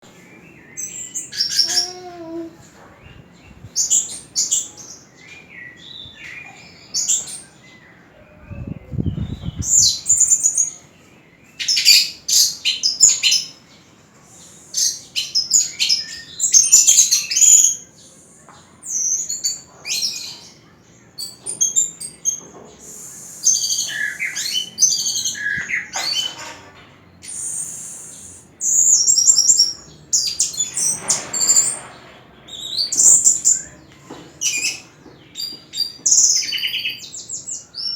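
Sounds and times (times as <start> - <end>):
bird singing: 0.0 - 37.9.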